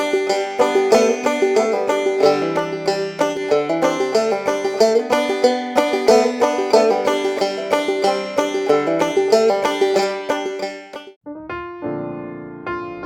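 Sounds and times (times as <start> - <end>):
lively banjo music: 0.0 - 11.2.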